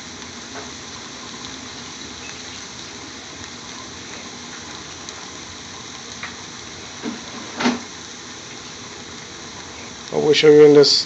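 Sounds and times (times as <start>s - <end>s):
faint crackles: 0.0s - 11.0s
food sizzling and bubbling: 0.0s - 11.0s.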